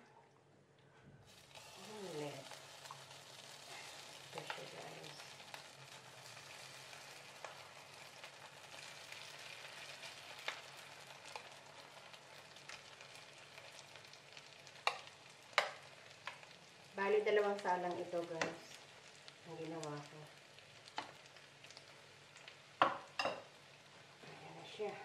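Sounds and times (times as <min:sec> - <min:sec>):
omelette mixture sizzling in oil: 0:01.3 - 0:25.0.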